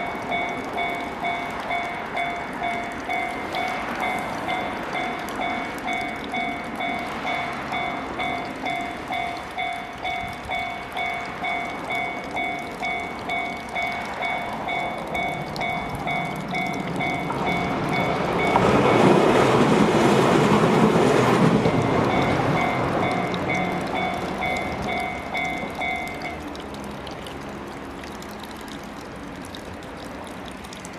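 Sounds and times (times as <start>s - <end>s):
level crossing warning bell: 0.0s - 26.5s.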